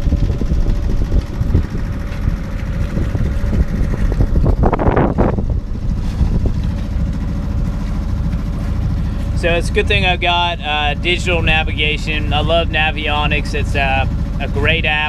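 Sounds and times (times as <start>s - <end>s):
diesel boat engine running: 0.0s - 15.0s
wind buffeting microphone: 0.0s - 15.0s.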